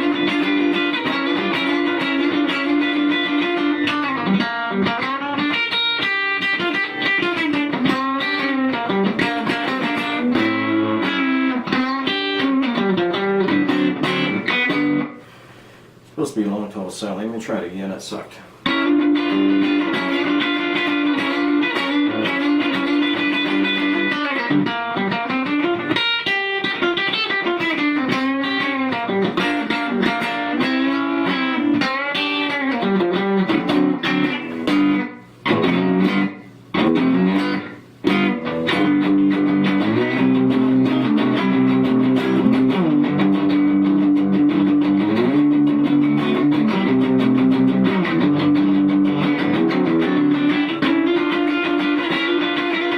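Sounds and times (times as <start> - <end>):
electric guitar lead line: 0.0 - 15.8, 18.6 - 52.9.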